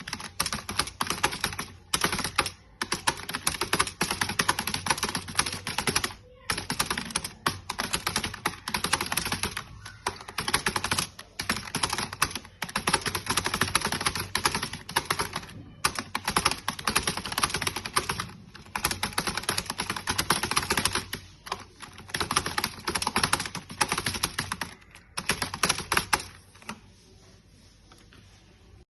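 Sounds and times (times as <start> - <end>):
rapid keyboard typing: 0.0 - 27.0.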